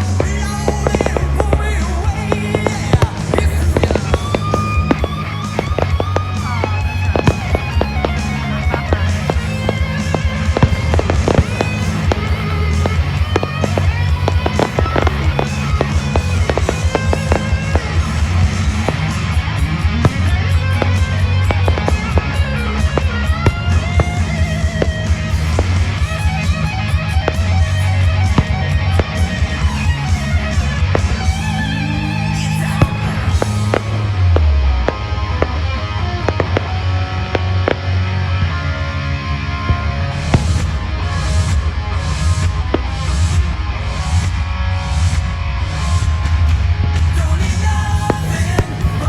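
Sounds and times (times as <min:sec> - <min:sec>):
firework bangs: 0:00.0 - 0:49.0
music with strummed guitar: 0:00.0 - 0:49.0
sharp cracks: 0:00.0 - 0:49.0.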